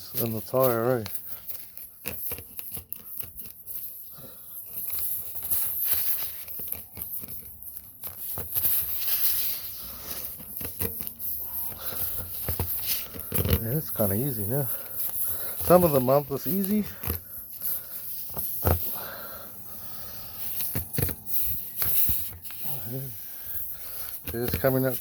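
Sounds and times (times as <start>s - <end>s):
rasp tool scraping tyre hole: 4.8s - 25.0s.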